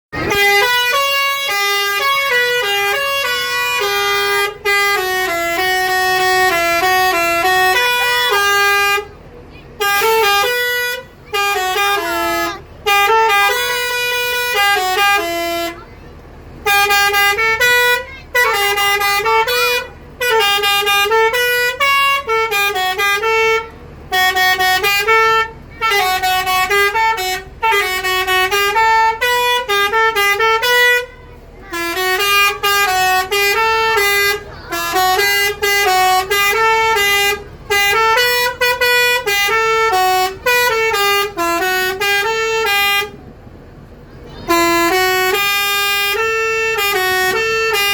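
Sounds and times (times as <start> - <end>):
musical air horn playing a tune: 0.2 - 9.1, 9.8 - 15.8, 16.6 - 43.2, 44.4 - 47.9.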